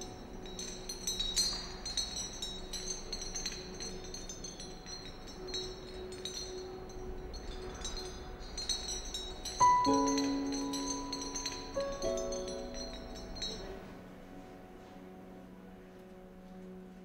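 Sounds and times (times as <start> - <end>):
glass chandelier pendants clinking: 0.0 - 14.1.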